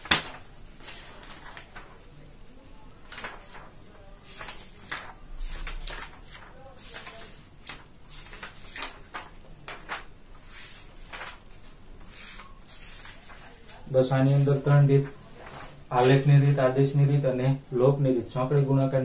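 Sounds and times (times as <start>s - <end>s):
paper pages rustling: 0.0s - 2.1s, 3.0s - 16.6s.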